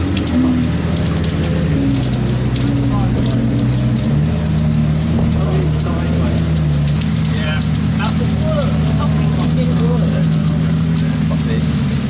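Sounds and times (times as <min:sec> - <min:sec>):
car engine rolling past: 0:00.0 - 0:12.0
heavy rain on tarmac: 0:00.0 - 0:12.0.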